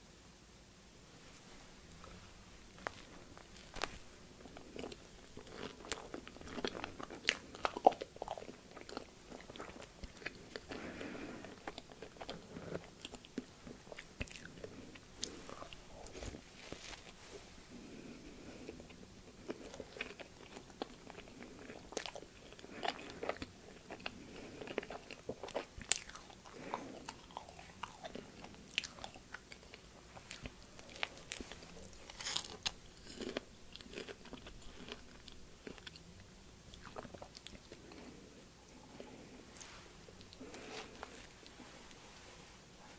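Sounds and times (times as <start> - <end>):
person chewing wet mouth sounds: 2.0 - 17.2, 18.0 - 38.2.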